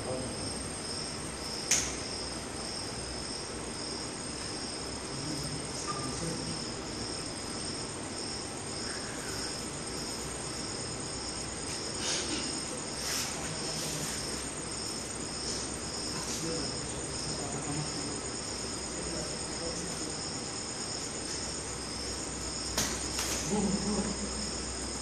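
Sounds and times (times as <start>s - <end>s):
crickets chirping: 0.0s - 25.0s
high insect trill: 0.0s - 25.0s.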